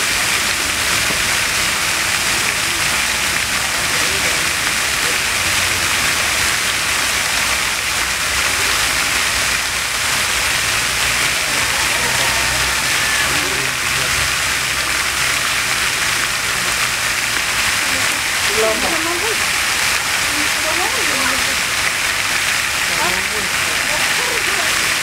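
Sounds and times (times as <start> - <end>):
faint voices murmuring: 0.0 - 25.0
steady rushing hiss: 0.0 - 25.0.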